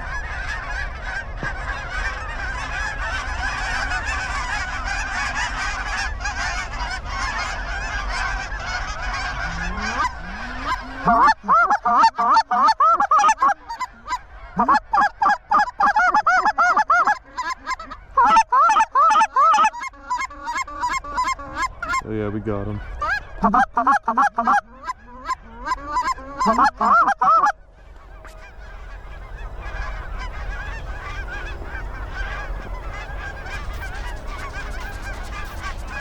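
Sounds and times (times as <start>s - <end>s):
flock of geese honking: 0.0s - 36.0s
loud rapid goose honks and clucks: 0.0s - 36.0s.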